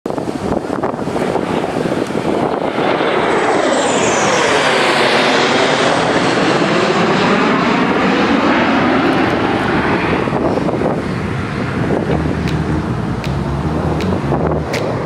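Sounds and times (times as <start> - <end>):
jet engine roar: 0.1 - 15.0
jets whooshing past: 0.2 - 15.0.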